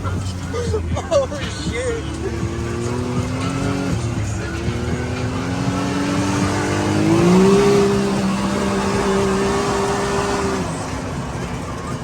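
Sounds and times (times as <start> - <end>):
driving rumble: 0.0 - 12.0
off-road vehicle engine accelerating: 0.0 - 12.0.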